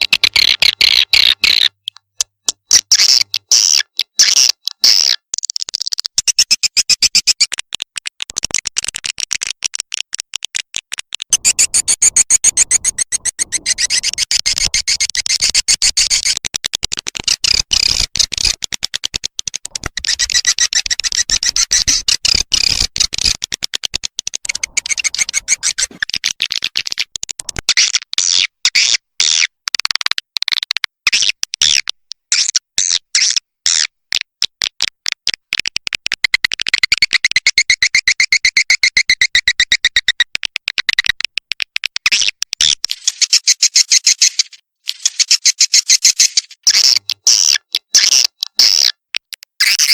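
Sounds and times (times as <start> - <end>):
bird chirping twitters and clicks: 0.0 - 49.9.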